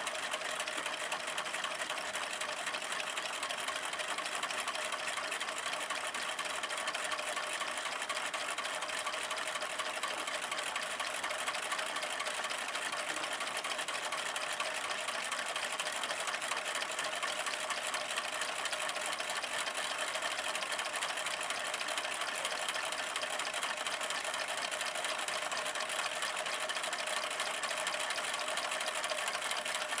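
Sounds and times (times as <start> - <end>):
small engines rattling: 0.0 - 30.0.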